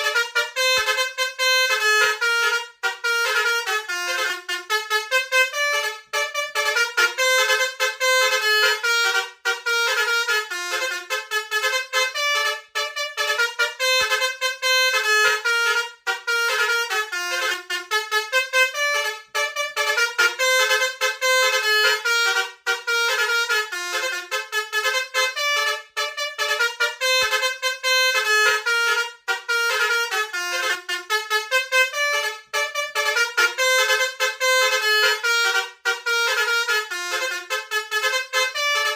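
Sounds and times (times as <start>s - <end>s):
multi-trumpet bus horn tune: 0.0s - 38.9s.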